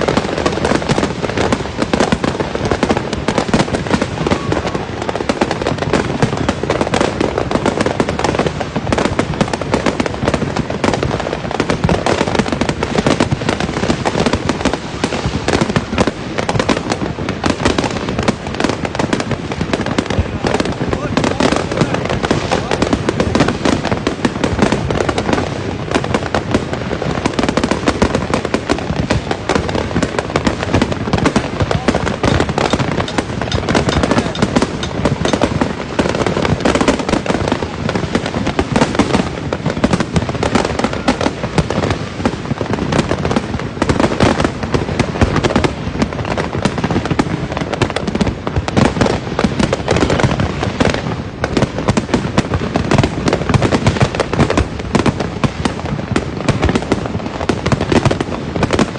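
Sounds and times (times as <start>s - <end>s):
fireworks barrage: 0.0s - 58.9s.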